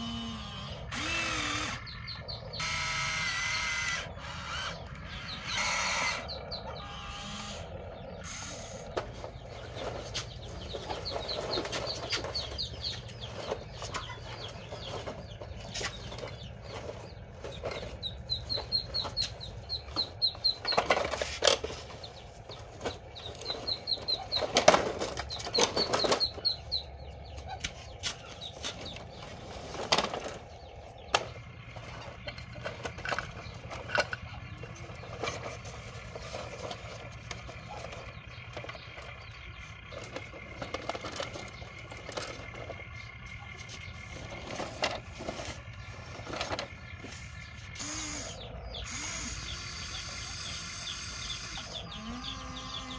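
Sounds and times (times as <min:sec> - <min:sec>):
bird chirping trills: 0:00.0 - 0:52.9
toy trucks scraping over dirt: 0:00.0 - 0:52.9.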